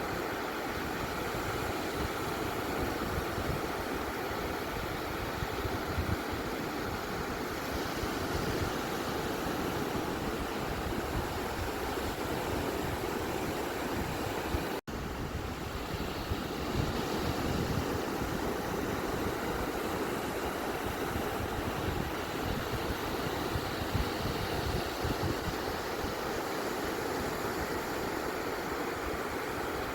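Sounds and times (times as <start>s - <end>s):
beach surf washing: 0.0s - 29.9s.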